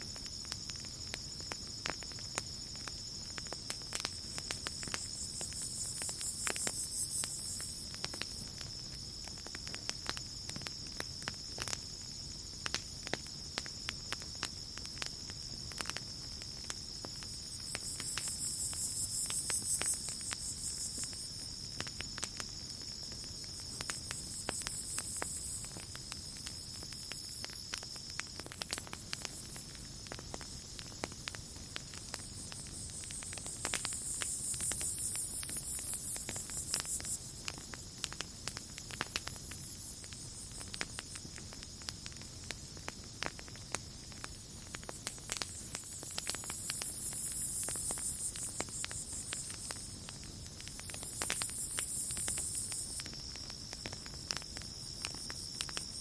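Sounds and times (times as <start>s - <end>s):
campfire crackling and popping: 0.0s - 56.0s
crickets chirping: 0.0s - 56.0s
high insect trill: 0.0s - 56.0s.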